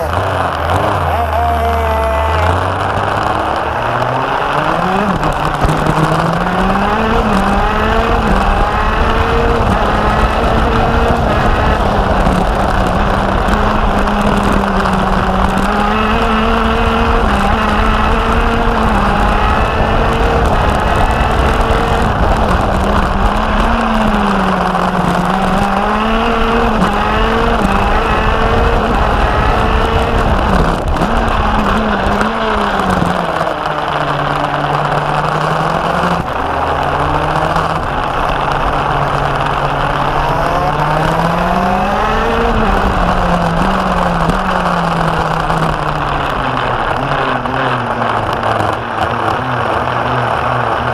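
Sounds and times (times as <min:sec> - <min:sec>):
kart engine revving: 0:00.0 - 0:50.9
wind and tyre noise: 0:00.0 - 0:50.9.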